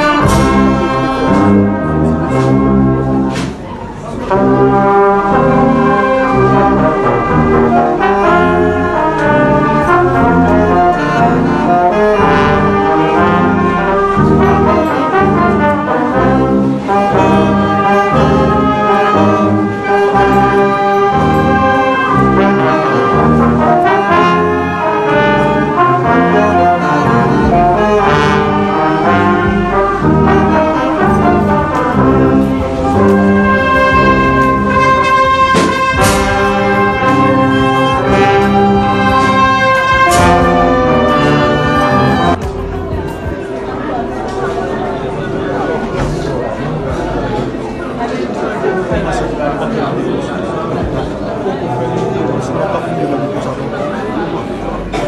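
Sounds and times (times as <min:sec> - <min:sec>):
trombone leading melody: 0:00.0 - 0:49.8
brass band playing: 0:00.0 - 0:55.0.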